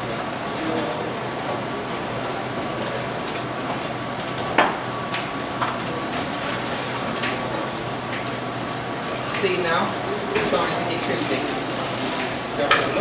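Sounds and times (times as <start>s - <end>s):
fish sizzling in frying pan: 0.0s - 13.0s.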